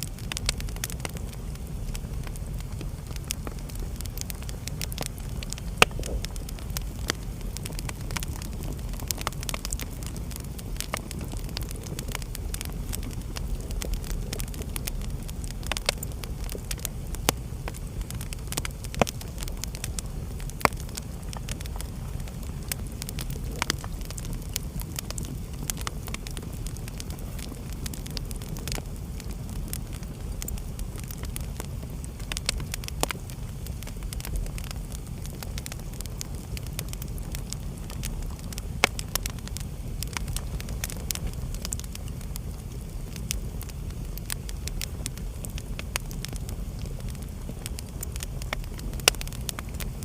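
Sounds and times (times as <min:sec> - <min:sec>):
fire crackling and popping: 0:00.0 - 0:50.0
fire flames rumbling: 0:00.0 - 0:50.0.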